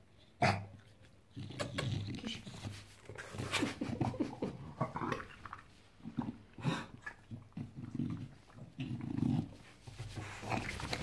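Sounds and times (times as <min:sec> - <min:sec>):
dog grunting and snuffling: 0:00.4 - 0:11.0.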